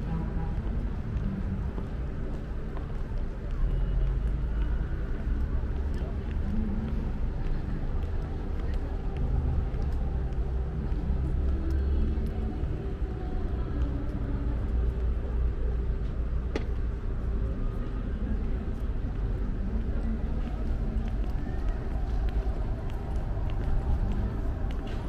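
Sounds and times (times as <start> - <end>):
low traffic rumble: 0.0 - 25.0.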